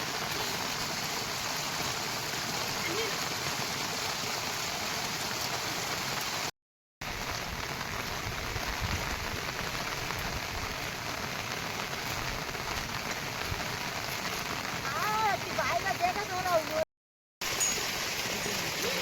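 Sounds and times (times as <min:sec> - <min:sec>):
heavy rain pouring: 0:00.0 - 0:16.8, 0:17.4 - 0:19.0.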